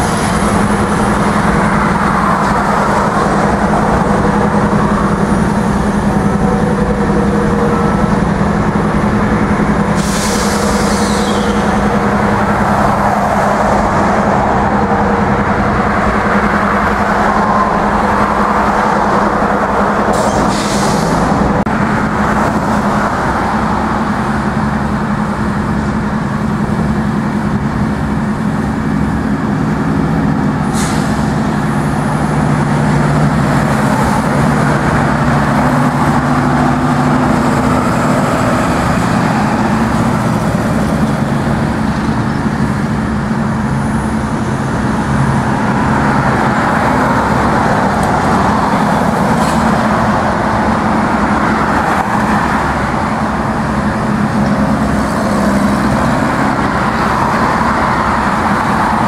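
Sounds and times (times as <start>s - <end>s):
engine drone: 0.0s - 59.0s
road traffic: 0.0s - 59.0s.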